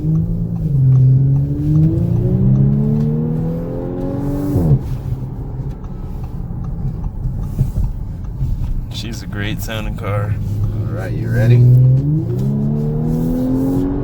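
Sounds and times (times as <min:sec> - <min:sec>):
car engine accelerating: 0:00.0 - 0:14.0
road noise: 0:00.0 - 0:14.0.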